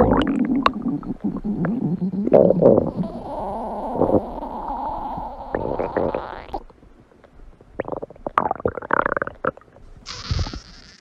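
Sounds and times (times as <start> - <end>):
stomach growling: 0.0 - 6.7, 7.6 - 11.0.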